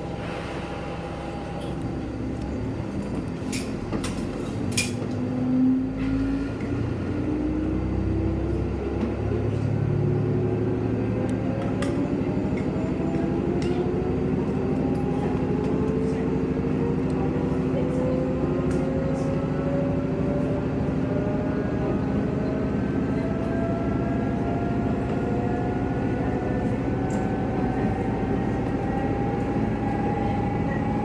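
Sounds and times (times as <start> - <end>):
railcar engine and transmission whine: 0.0 - 31.0.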